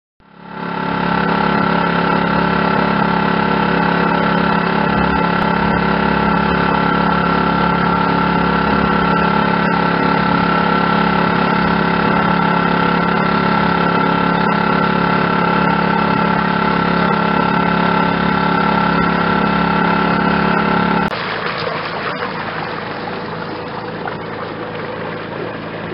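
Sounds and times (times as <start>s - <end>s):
boat engine droning: 0.2s - 25.9s.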